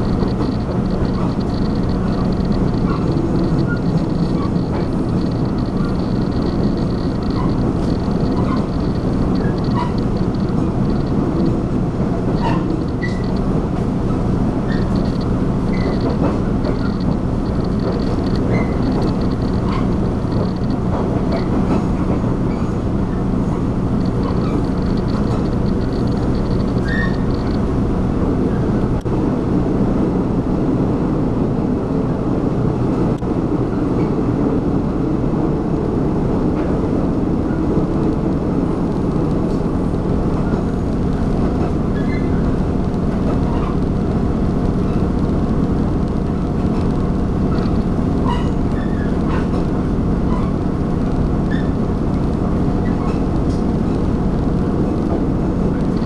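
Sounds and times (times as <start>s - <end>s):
train engine hum: 0.0s - 56.0s
train wheel rumble: 0.0s - 56.0s.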